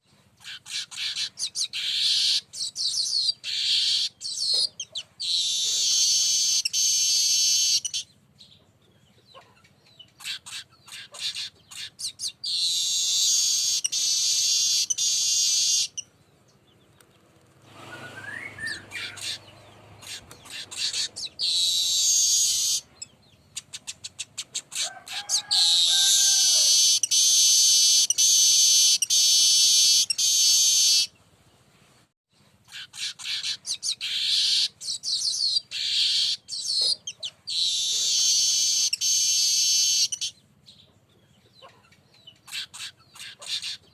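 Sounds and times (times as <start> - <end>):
weaver bird buzzy song: 0.0 - 31.6, 32.3 - 43.9.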